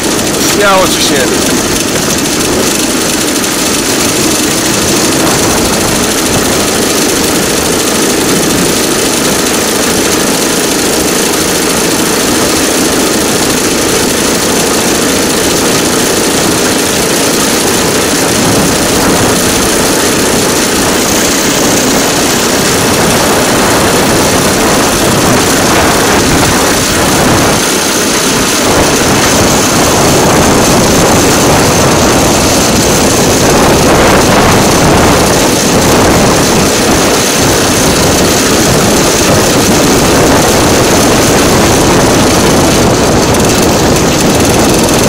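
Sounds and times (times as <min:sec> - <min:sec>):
motor draisine engine running: 0:00.0 - 0:45.0
rail vehicle running on rails: 0:00.0 - 0:45.0.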